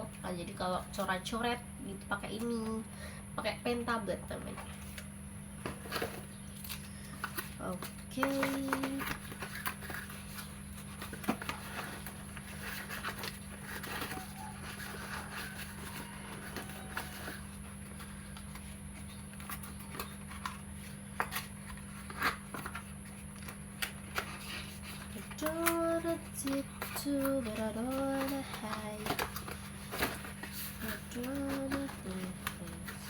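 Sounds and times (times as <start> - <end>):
steady background hum: 0.0 - 33.0
packaging rustling: 4.7 - 33.0.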